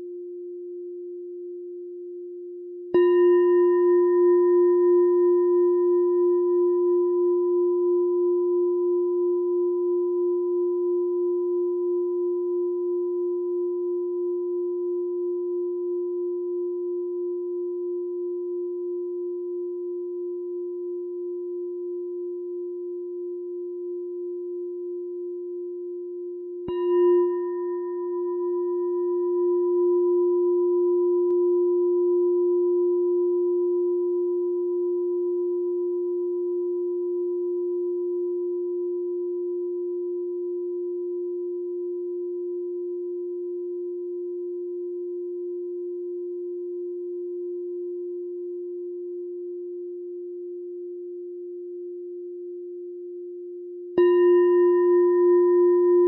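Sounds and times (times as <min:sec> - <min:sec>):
meditation bell ringing: 0:02.9 - 0:25.0, 0:26.6 - 0:51.8, 0:54.0 - 0:56.0.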